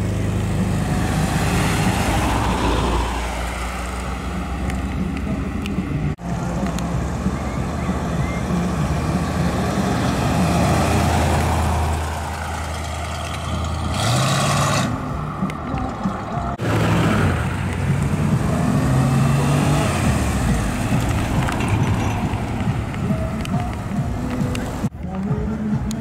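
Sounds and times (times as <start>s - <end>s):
deep car engine accelerating: 0.0s - 25.0s
small car engine approaching: 0.0s - 26.0s.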